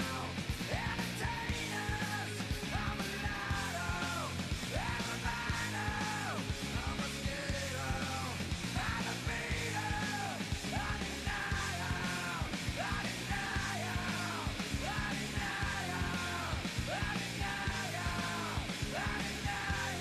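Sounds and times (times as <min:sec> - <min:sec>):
driving drum beat: 0:00.0 - 0:20.0
rock music: 0:00.0 - 0:20.0
shouted vocals: 0:00.0 - 0:20.0.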